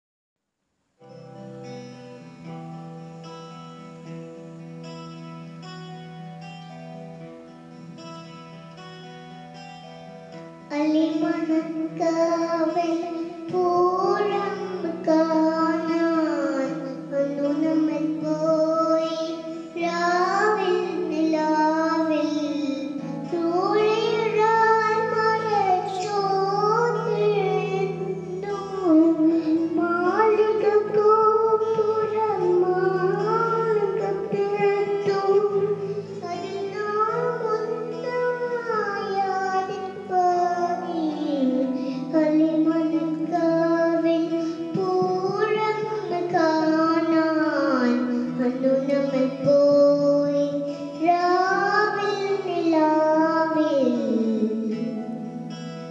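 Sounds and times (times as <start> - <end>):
held accompaniment chords: 1.0 - 55.9
boy singing into microphone: 10.7 - 55.6.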